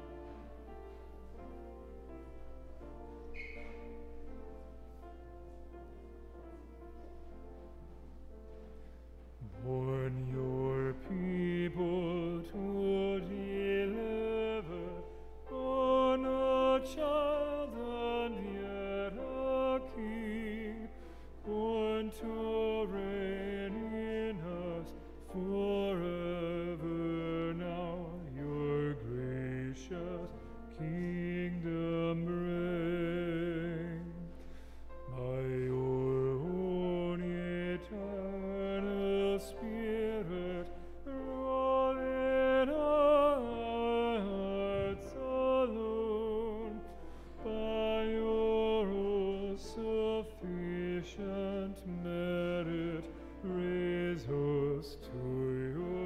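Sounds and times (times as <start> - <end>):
slow church music: 0.0 - 56.0.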